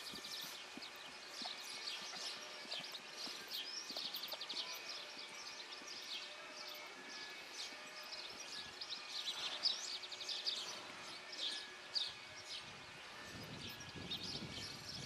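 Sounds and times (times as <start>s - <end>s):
birds chirping and trilling: 0.0s - 15.0s
muffled hoofbeats on sand: 0.0s - 15.0s.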